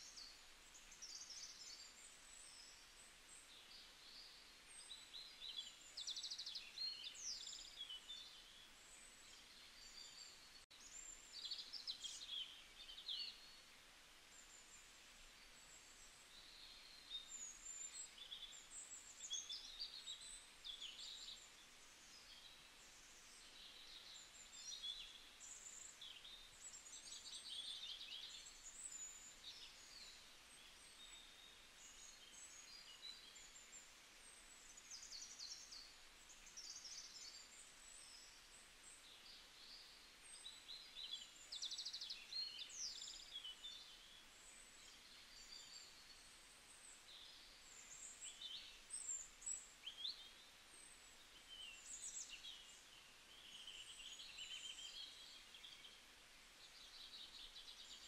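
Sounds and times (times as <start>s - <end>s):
faint birdsong: 0.0s - 58.0s.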